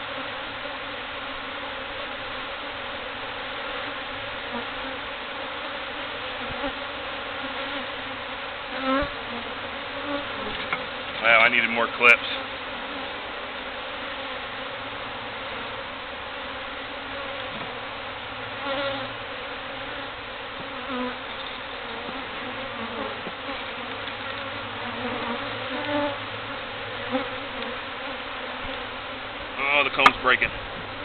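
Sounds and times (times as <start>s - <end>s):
bees buzzing: 0.0s - 31.0s
single bee passing close: 0.0s - 31.0s.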